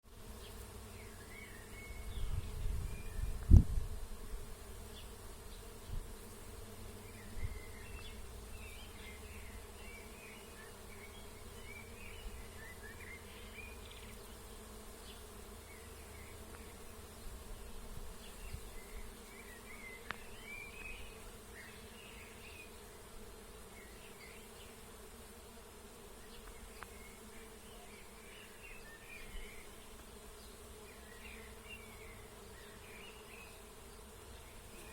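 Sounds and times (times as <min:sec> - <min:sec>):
bees buzzing: 0:00.1 - 0:34.9
small birds chirping: 0:00.3 - 0:03.6, 0:04.8 - 0:17.3, 0:18.2 - 0:23.0, 0:26.1 - 0:34.9.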